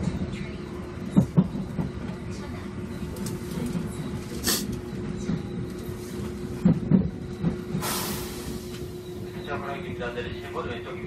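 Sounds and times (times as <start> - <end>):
train running-gear rumble: 0.0 - 11.0
train traction inverter hum: 0.0 - 11.0.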